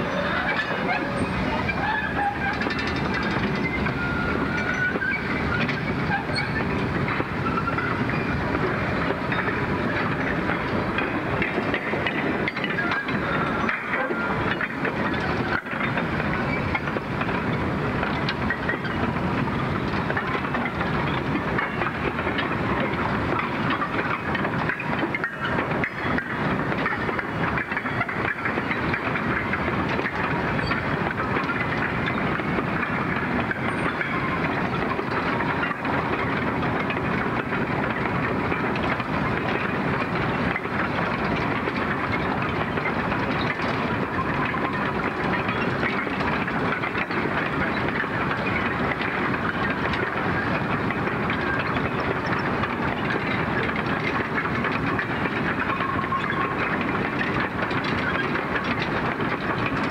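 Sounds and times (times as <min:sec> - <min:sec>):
train wheels clattering: 0:00.0 - 0:59.9.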